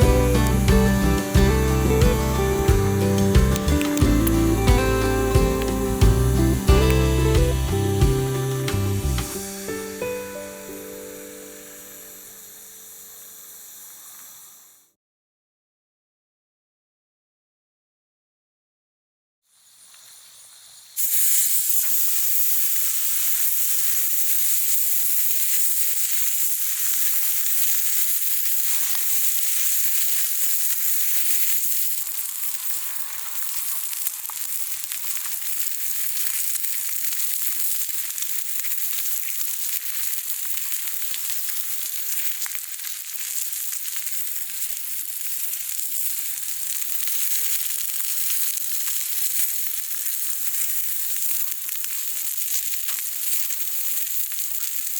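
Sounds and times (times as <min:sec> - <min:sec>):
meat sizzling on a grill: 0:00.0 - 0:14.8, 0:19.5 - 0:54.9.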